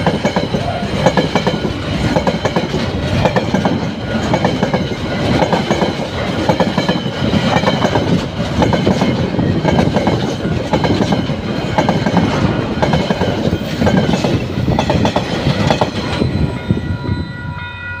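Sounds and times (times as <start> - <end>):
train wheels clattering over rail joints: 0.0 - 16.4.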